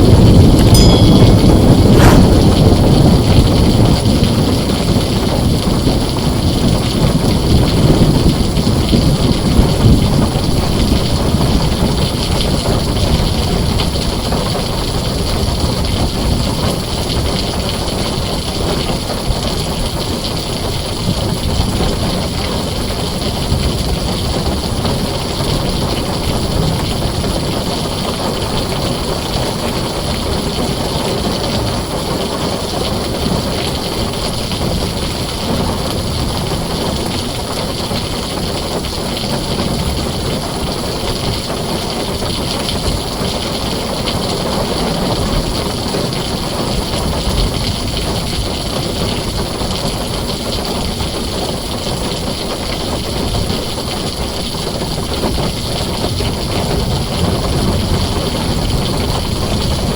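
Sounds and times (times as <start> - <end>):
heavy rain on a tin roof: 0.0 - 59.9
low rumble of thunder: 0.0 - 59.9.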